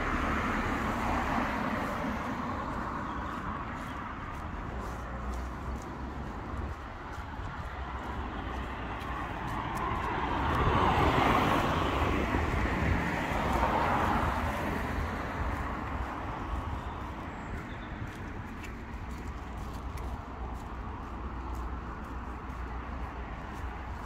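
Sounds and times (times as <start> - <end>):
car passing on wet road: 0.0 - 24.0
low traffic rumble: 0.0 - 24.0.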